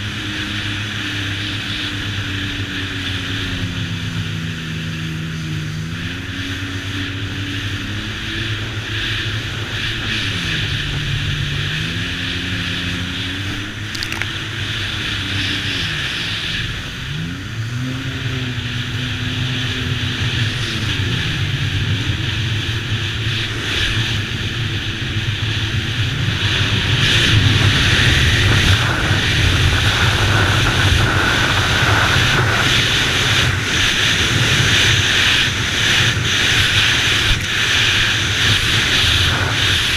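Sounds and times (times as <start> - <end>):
rushing wind and water: 0.0 - 39.9
water-jet engine revving: 0.0 - 39.9.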